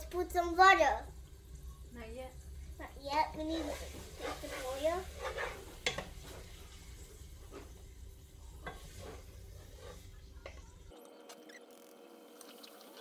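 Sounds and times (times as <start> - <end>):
wooden spoon stirring in pot: 0.0 - 10.9
faint frying sizzle: 0.0 - 11.0.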